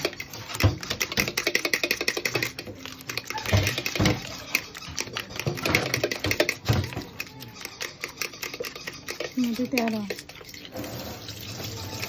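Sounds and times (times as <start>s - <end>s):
fork whisking in bowl: 0.0s - 12.0s.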